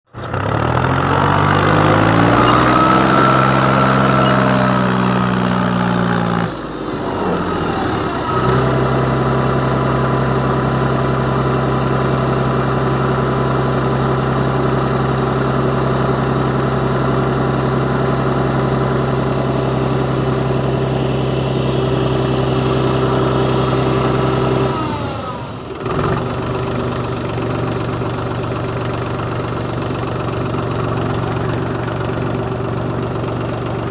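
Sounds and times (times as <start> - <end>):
tractor diesel engine working hard: 0.1 - 33.9.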